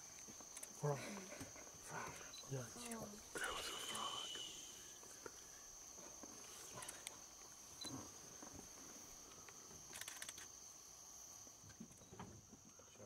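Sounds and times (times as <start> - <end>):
cricket-like trill: 0.0 - 13.0.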